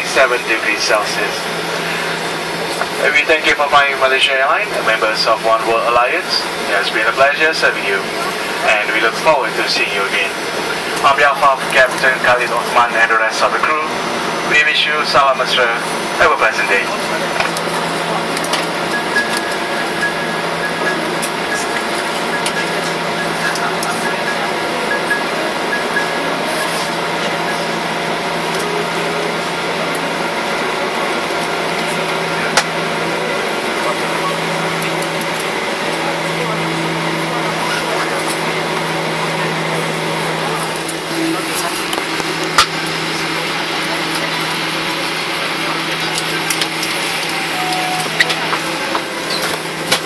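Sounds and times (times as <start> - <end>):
faint jet engine whine: 0.0 - 50.0.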